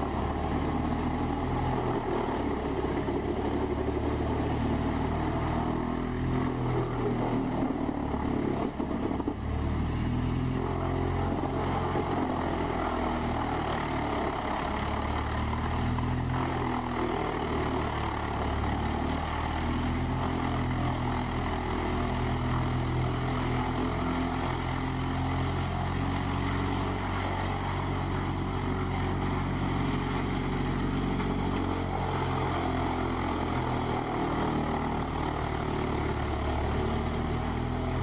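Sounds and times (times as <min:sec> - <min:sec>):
rush of chipping noise: 0:00.0 - 0:38.0
wood chipper engine drone: 0:00.0 - 0:38.0.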